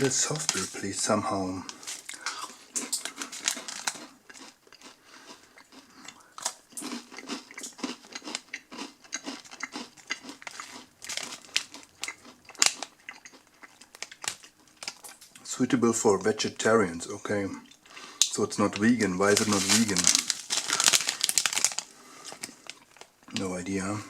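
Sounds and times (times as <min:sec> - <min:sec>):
person chewing crunchy granola bar: 0:01.6 - 0:15.4, 0:17.7 - 0:23.5.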